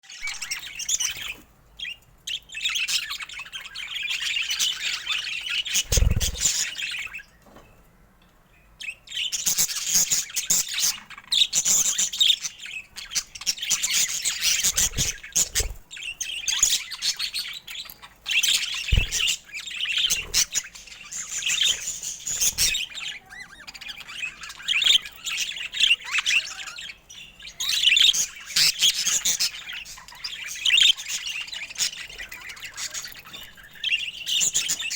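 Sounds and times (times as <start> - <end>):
budgerigars chirping: 0.1 - 7.3, 8.8 - 34.9.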